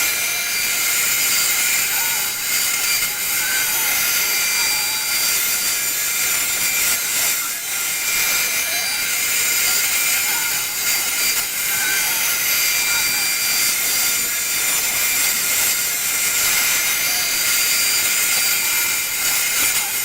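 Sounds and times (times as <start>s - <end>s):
router spindle hiss and whine: 0.0s - 20.0s.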